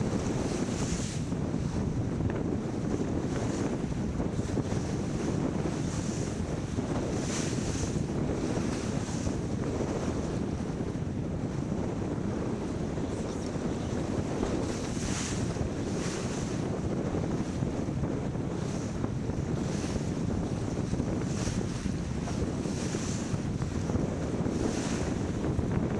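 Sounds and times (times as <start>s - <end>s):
water rushing along hull: 0.0s - 25.9s
wind buffeting microphone: 0.0s - 25.9s.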